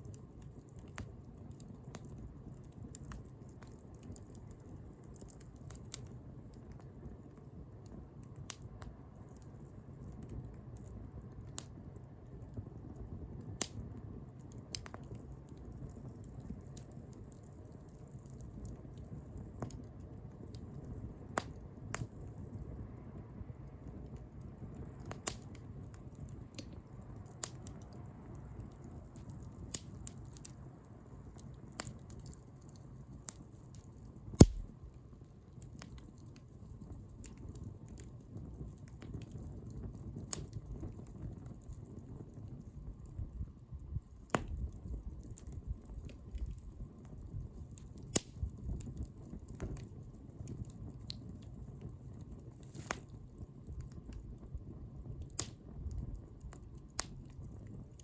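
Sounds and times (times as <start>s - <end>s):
bonfire burning: 0.0s - 58.0s.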